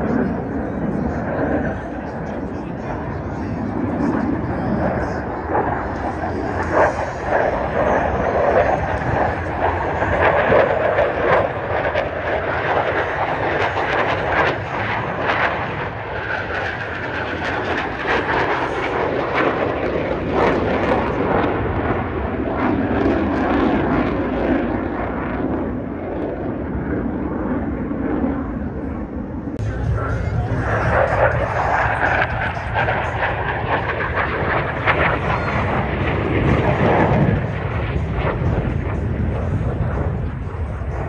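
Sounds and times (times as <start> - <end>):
jet flying past: 0.0 - 41.0.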